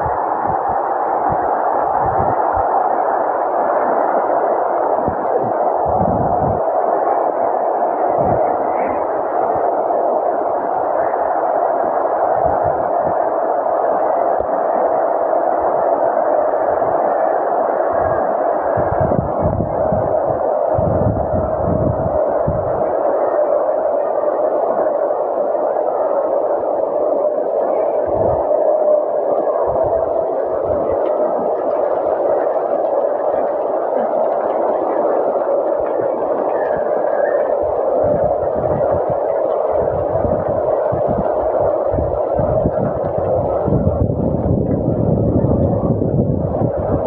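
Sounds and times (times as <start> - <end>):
wind gusting on microphone: 0.0 - 47.0.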